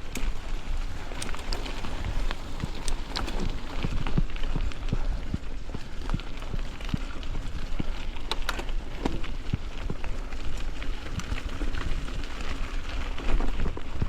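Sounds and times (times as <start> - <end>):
bike knocks and rattles: 0.0 - 14.0
bike tyres on dirt and stones: 0.0 - 14.0
wind rumble on microphone: 0.0 - 14.0.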